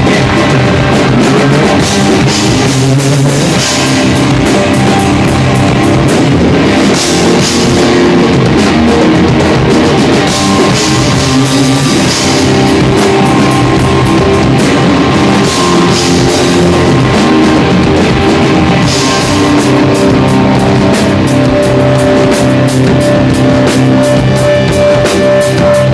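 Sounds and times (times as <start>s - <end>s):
drum kit and cymbals: 0.0s - 25.9s
electric guitars: 0.0s - 25.9s.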